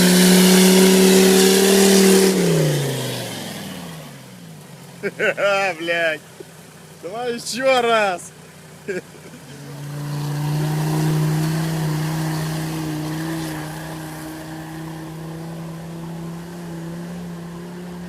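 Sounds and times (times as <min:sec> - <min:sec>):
diesel engine running hard: 0:00.0 - 0:18.0.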